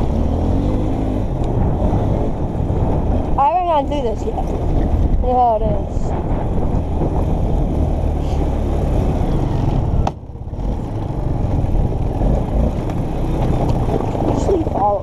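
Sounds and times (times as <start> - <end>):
quad bike engine rumbling: 0.0 - 15.0.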